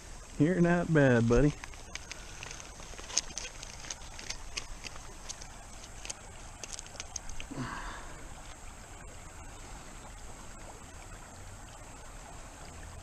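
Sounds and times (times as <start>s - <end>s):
creek water over rocks: 0.0s - 13.0s.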